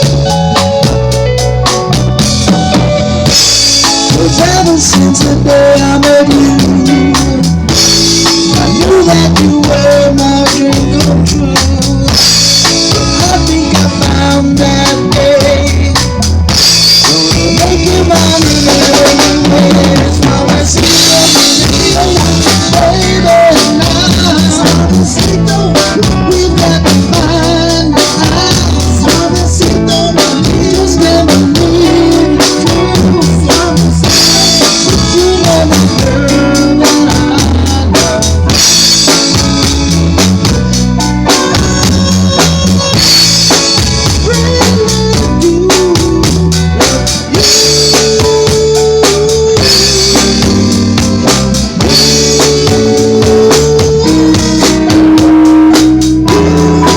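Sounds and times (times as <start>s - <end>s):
bass line: 0.0s - 56.9s
live band playing loudly: 0.0s - 56.9s
snare and bass drum beat: 0.0s - 56.9s.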